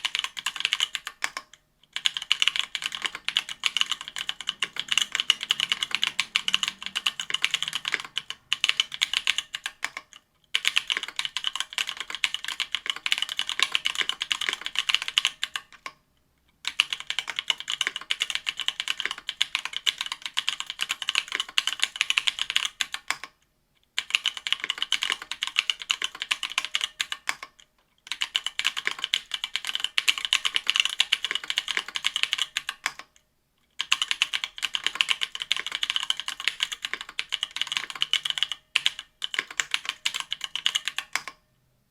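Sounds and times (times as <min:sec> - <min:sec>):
rapid mechanical keyboard typing: 0:00.0 - 0:16.0, 0:16.6 - 0:23.4, 0:24.0 - 0:33.2, 0:33.8 - 0:41.4.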